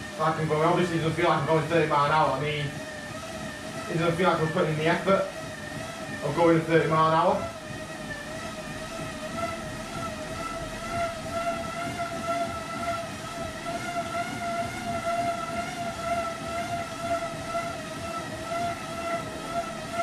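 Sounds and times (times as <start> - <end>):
bike tyres whining on rollers: 0.0 - 20.0.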